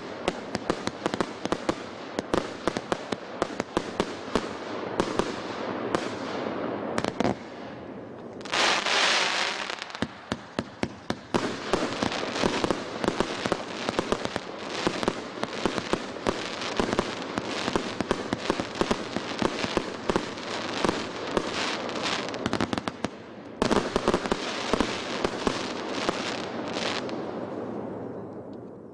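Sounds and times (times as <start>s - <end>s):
fireworks bangs: 0.0s - 27.4s
fireworks crackling: 0.0s - 27.7s.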